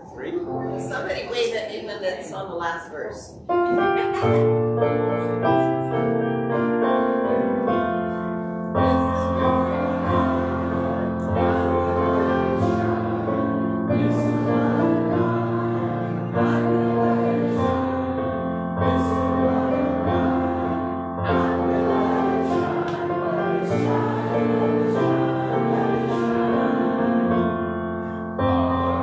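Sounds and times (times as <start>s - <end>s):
keyboard playing hymn chords: 3.4s - 29.0s.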